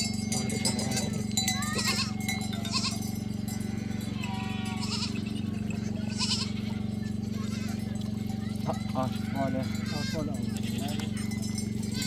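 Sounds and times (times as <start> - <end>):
steady low hum: 0.0 - 12.0
livestock bleating: 0.4 - 7.8, 8.9 - 11.2.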